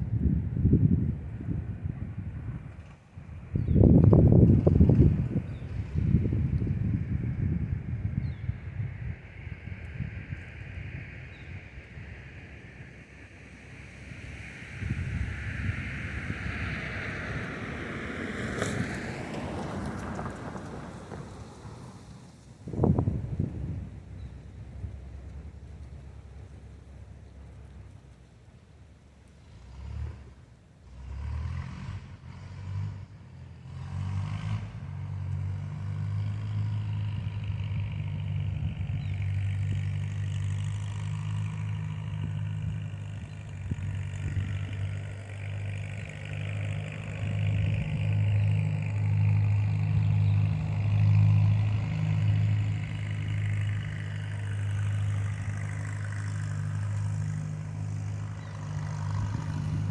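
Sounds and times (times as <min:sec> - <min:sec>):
vehicle engine running: 0:00.4 - 0:29.5, 0:34.6 - 0:59.9.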